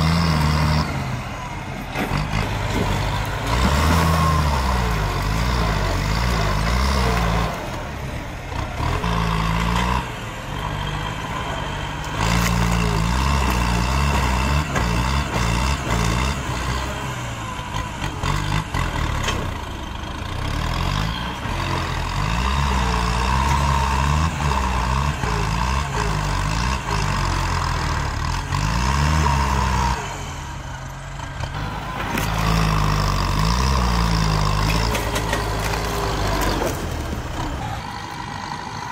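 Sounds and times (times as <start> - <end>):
tractor diesel engine straining: 0.0 - 38.9.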